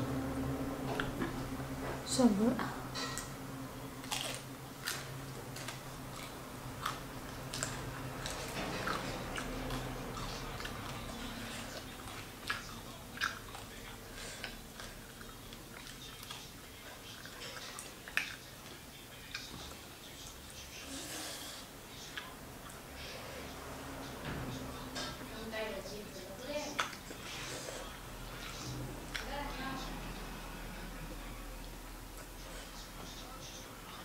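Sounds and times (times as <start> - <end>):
chewing fried fish: 3.0 - 34.0.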